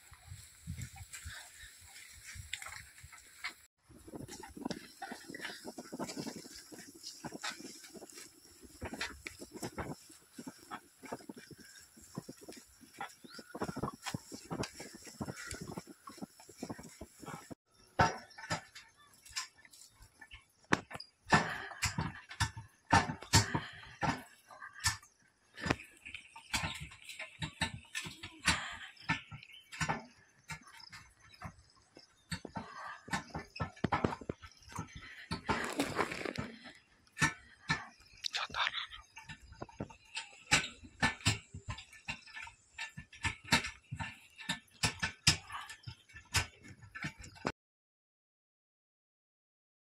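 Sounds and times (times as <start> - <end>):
hoof steps: 0.0 - 47.5
wooden cart knocking and clattering: 3.4 - 19.6, 20.2 - 38.1, 39.3 - 47.5.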